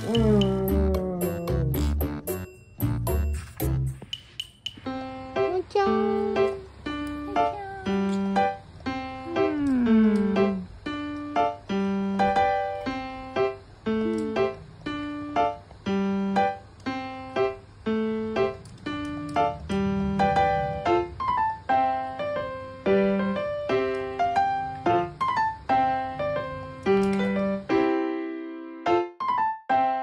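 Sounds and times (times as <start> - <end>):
gentle piano-like melody: 0.0 - 30.0.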